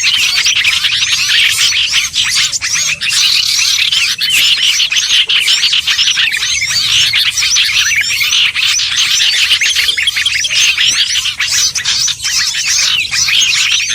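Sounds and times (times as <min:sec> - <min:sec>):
songbirds chirping: 0:00.0 - 0:13.9.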